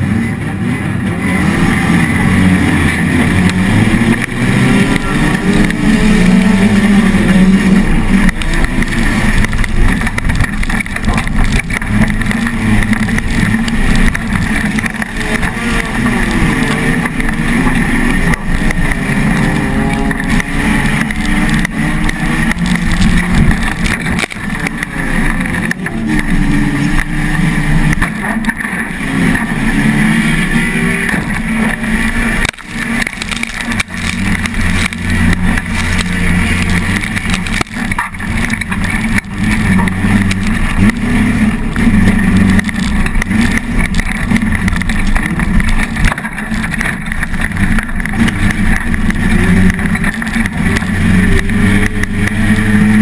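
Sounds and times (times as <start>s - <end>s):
race car engine revving hard: 0.0s - 53.0s.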